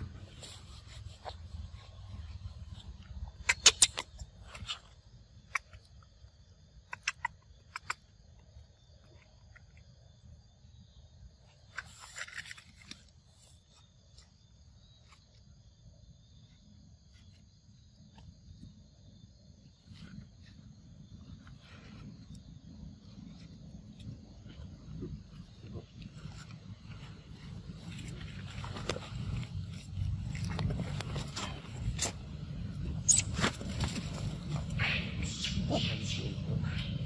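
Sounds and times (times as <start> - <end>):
forest insects droning: 0.0 - 37.0.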